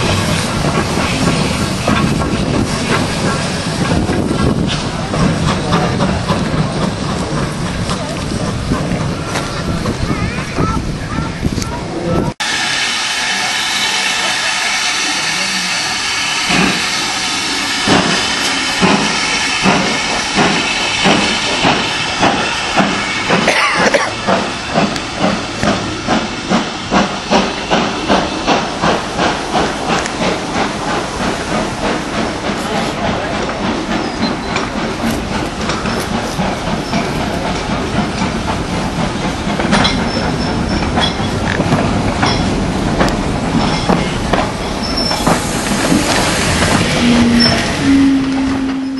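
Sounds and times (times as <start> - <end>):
steam hissing: 0.0 - 10.6, 12.4 - 48.9
steam locomotive chuffing: 0.0 - 48.9.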